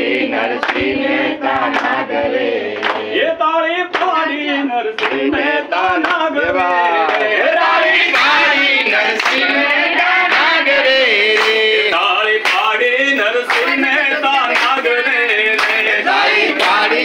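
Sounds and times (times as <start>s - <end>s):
group singing: 0.0s - 17.0s
people clapping in rhythm: 0.0s - 17.0s.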